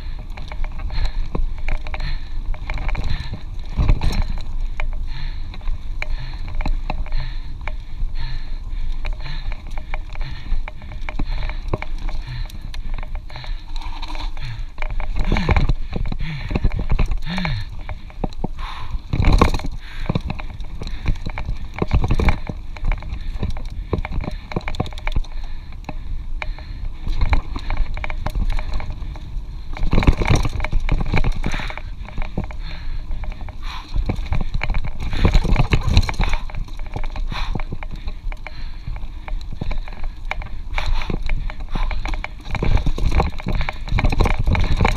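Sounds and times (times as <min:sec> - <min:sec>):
bike tyres rolling and rattling: 0:00.0 - 0:44.9
knocks and clunks over bumps: 0:00.0 - 0:44.9.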